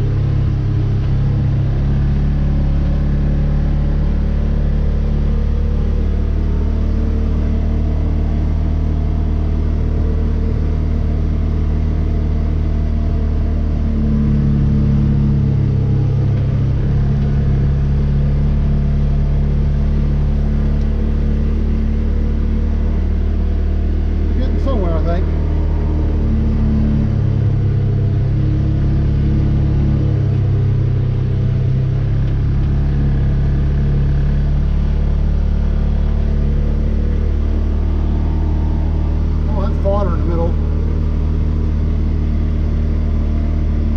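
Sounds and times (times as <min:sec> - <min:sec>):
vehicle engine under load: 0:00.0 - 0:43.9.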